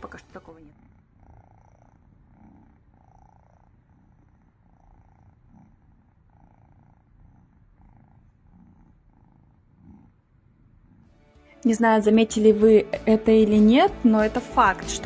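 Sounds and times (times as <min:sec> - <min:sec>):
kitten purring: 0:00.0 - 0:15.0.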